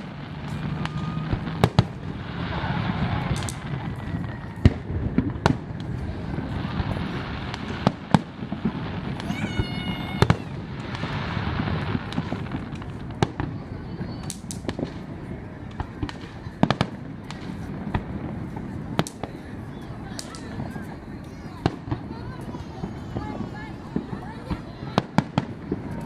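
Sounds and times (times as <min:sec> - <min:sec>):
continuous rumbling: 0:00.0 - 0:26.0
firework bangs: 0:00.0 - 0:26.0.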